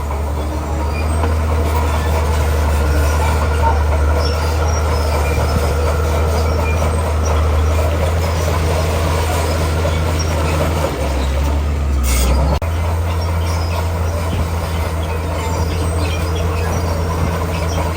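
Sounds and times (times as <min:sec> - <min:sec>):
heavy diesel machinery running: 0:00.0 - 0:17.9.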